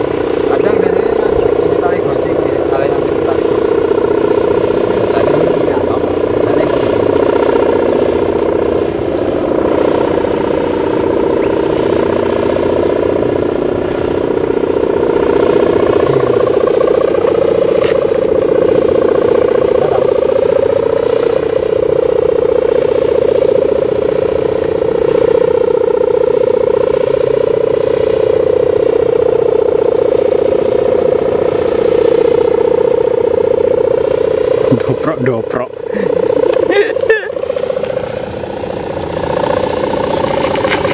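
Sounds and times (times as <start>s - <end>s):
kite hummer buzzing drone: 0.0s - 40.9s.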